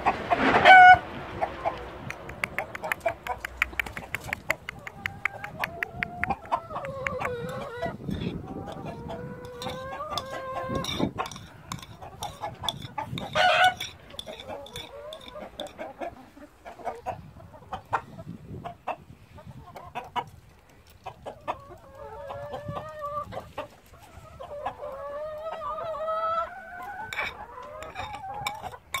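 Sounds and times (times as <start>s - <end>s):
chickens clucking: 0.0s - 29.0s
long drawn-out chicken calls: 0.0s - 29.0s.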